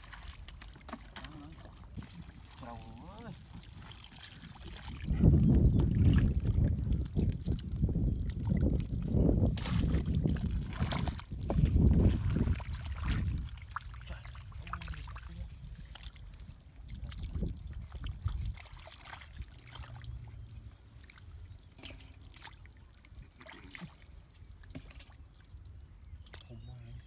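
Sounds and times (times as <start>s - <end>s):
hands squelching through wet mud: 0.0s - 26.7s
small water splashes: 0.0s - 27.0s.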